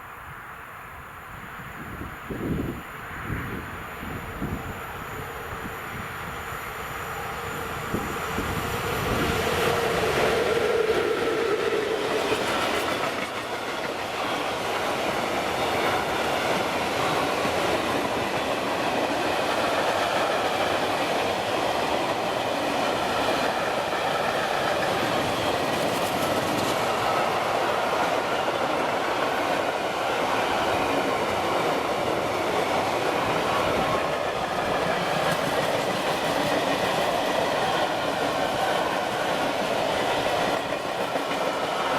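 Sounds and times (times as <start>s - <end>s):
train wheels clattering on rails: 7.5s - 41.9s.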